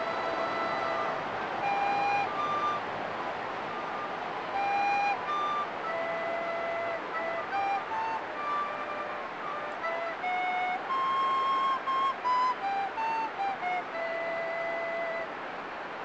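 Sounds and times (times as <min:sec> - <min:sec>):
recorders playing held notes: 0:00.0 - 0:15.3
steady background noise: 0:00.0 - 0:16.0.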